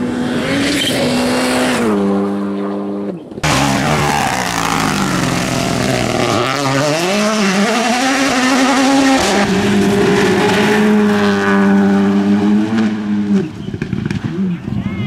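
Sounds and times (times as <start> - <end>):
rally car engines at full throttle: 0.0 - 14.9.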